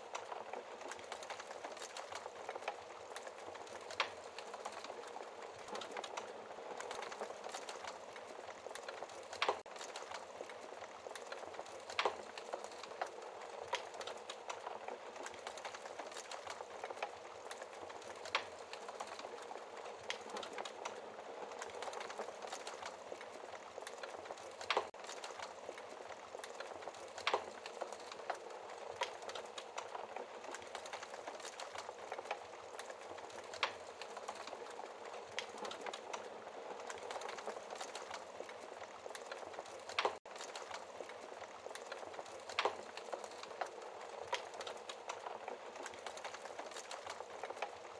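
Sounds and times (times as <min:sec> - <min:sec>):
fire crackling: 0:00.0 - 0:47.9.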